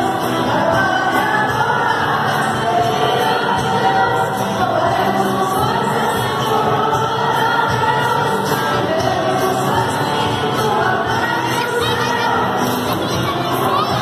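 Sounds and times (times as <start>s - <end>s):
crowd singing worship music: 0.0s - 14.0s.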